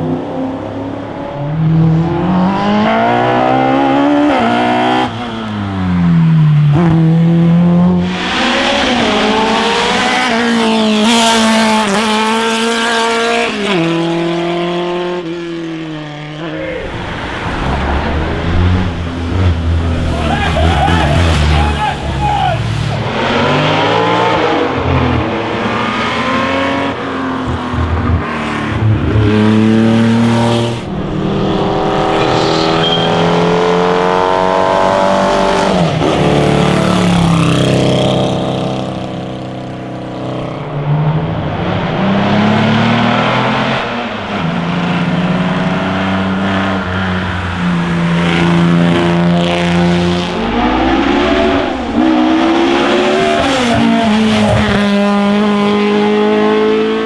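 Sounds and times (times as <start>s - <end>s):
racing car engines accelerating: 0.0s - 57.0s
racing cars passing by: 0.0s - 57.0s.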